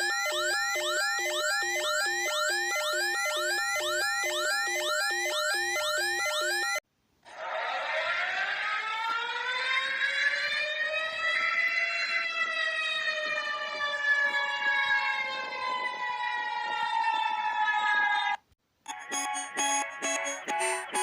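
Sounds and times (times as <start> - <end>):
warning siren wailing: 0.0 - 6.8, 7.4 - 18.1.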